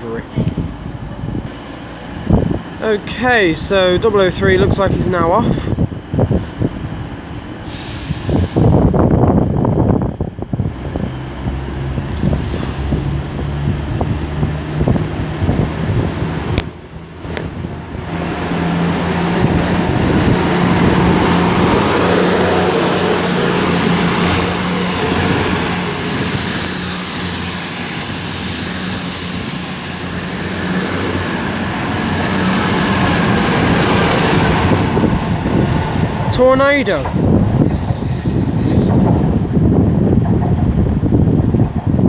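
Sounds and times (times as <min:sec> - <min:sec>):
diesel train engines accelerating: 0:00.0 - 0:42.0.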